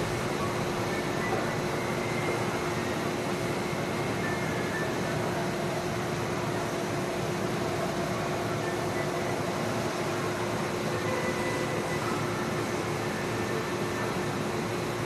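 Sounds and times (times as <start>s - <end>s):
train wash machinery whirring: 0.0s - 15.0s.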